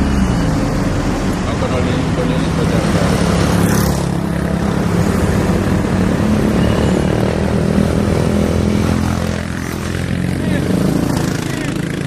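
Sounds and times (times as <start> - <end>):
motor scooters: 0.0 - 12.0
traffic engines running: 0.0 - 12.0.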